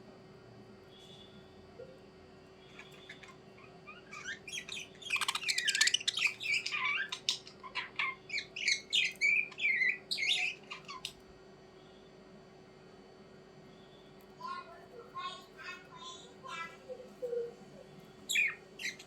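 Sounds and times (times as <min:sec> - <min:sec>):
faint steady hum: 0:00.0 - 0:19.0
birds chirping: 0:00.9 - 0:12.3, 0:13.6 - 0:19.0.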